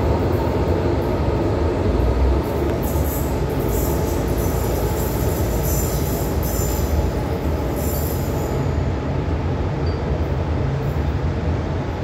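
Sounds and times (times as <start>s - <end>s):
train low rumble: 0.0s - 12.0s
high hiss from wheels and rails: 0.1s - 9.8s.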